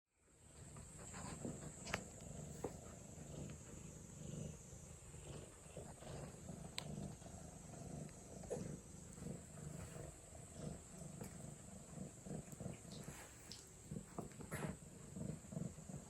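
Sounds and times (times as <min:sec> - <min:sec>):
cat purring: 0:00.2 - 0:16.0.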